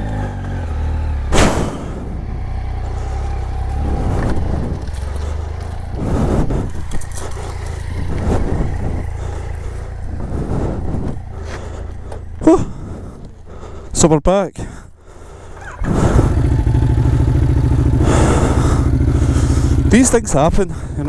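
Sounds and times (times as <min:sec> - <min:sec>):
vehicle engine drone: 0:00.0 - 0:21.0.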